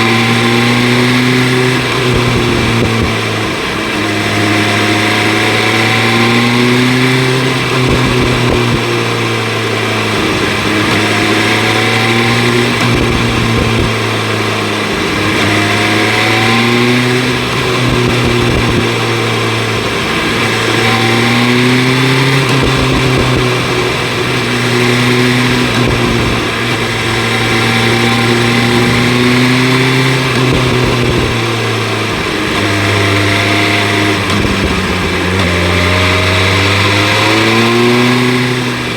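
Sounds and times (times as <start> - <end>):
sport bike engine revving: 0.0 - 38.9
wind noise: 0.0 - 38.9.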